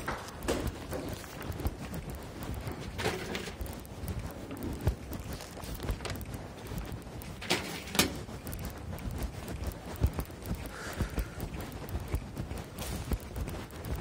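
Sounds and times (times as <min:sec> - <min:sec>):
footsteps on hard surface: 0:00.0 - 0:14.0.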